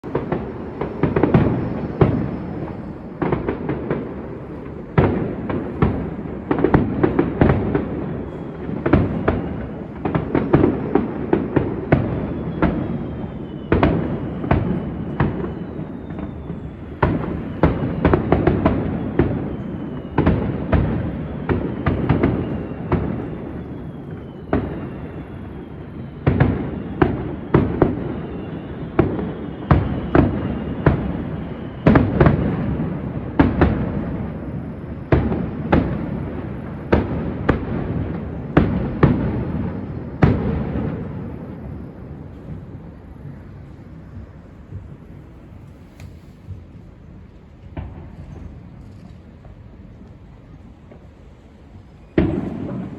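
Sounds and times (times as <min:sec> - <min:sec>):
fireworks bangs and crackling: 0:00.0 - 0:52.9
faint falling whistles: 0:00.1 - 0:47.3.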